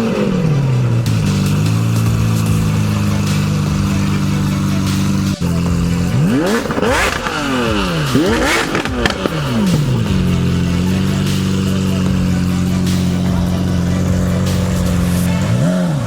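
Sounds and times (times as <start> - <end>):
car engine idling: 0.0 - 16.0
car engine revving: 0.0 - 16.0.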